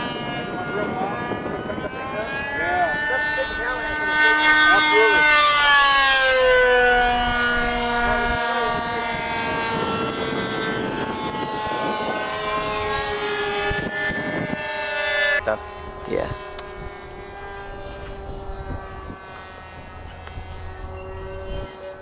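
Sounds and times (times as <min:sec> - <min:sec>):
model airplane flying past: 0:00.0 - 0:22.0.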